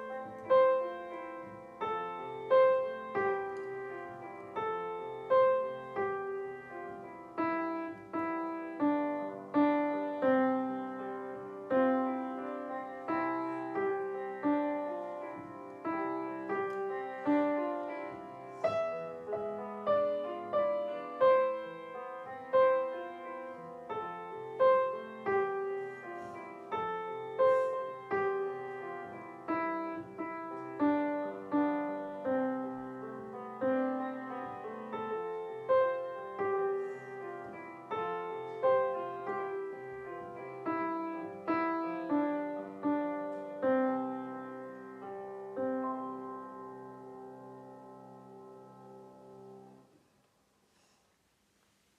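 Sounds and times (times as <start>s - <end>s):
slow piano piece: 0.0s - 51.9s.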